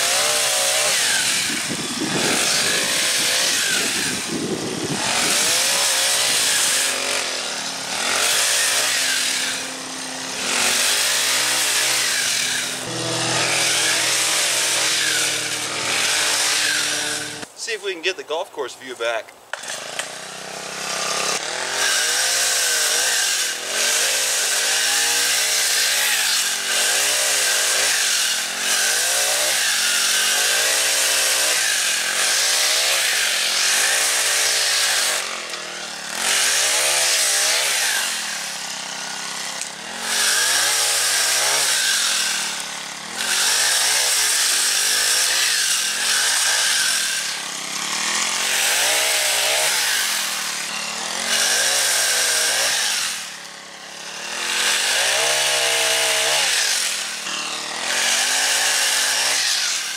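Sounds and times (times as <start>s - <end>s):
small engine revving: 0.0s - 17.5s, 19.5s - 59.9s
saw chain rasping through wood: 0.0s - 59.9s.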